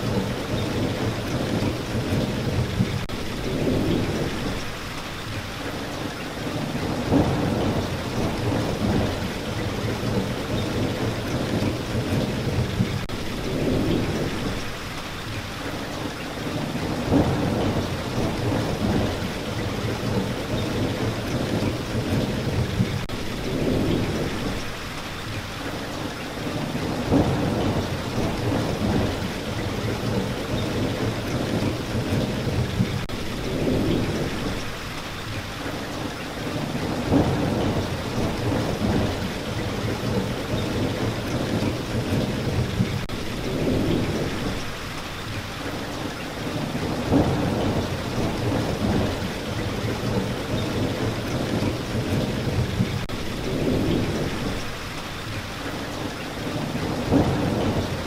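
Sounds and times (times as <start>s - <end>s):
rolling thunder rumbles: 0.0s - 5.0s, 6.4s - 15.0s, 16.4s - 25.3s, 26.0s - 35.3s, 36.0s - 55.4s, 56.0s - 58.0s
heavy rain falling: 0.0s - 58.0s.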